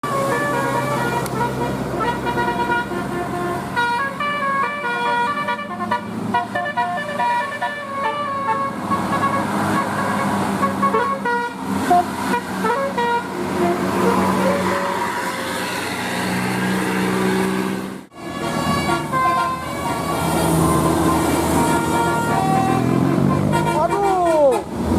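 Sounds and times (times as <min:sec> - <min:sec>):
multi-tone air horn melody: 0:00.0 - 0:16.0, 0:16.8 - 0:24.7
vehicle noise: 0:00.0 - 0:24.9.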